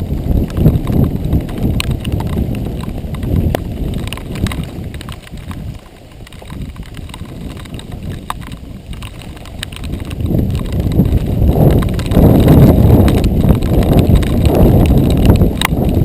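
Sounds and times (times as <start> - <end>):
bike clicks: 0.0 - 16.0
bike tyres rumbling on dirt: 0.0 - 16.0.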